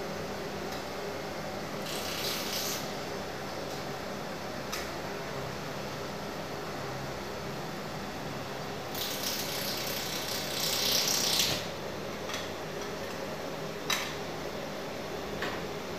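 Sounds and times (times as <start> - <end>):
machine and chiller hum: 0.0 - 15.9.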